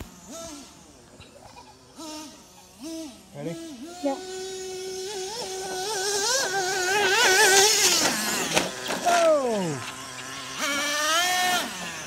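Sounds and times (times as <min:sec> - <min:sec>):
rc truck engine revving: 0:00.0 - 0:12.0.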